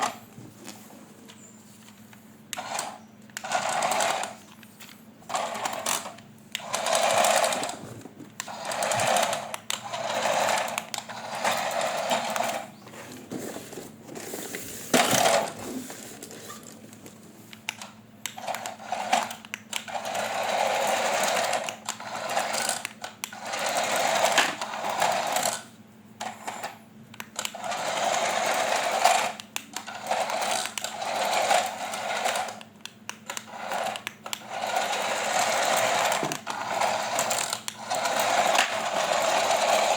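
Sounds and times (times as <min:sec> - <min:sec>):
toy electric motor whirring: 0:02.5 - 0:04.6, 0:05.3 - 0:16.0, 0:17.8 - 0:39.9.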